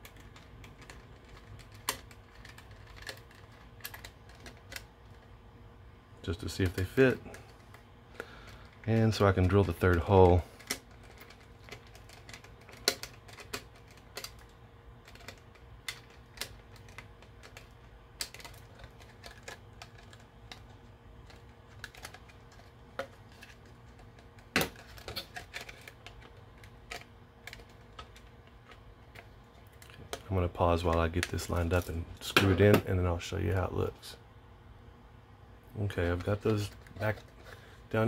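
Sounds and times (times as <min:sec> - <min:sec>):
plastic parts clicking and tapping: 0:00.0 - 0:05.3, 0:06.5 - 0:32.9, 0:35.9 - 0:37.6.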